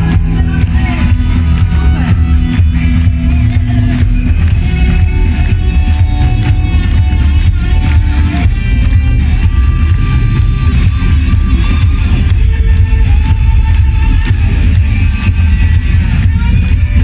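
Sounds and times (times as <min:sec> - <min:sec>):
electric guitar sustained notes: 0:00.0 - 0:17.0
heavy bass: 0:00.0 - 0:17.0
steady drum beat: 0:00.0 - 0:17.0.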